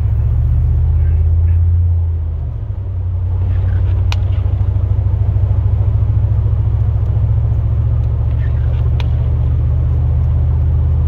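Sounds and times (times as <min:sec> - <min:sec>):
truck engine rumble in cab: 0:00.0 - 0:11.0.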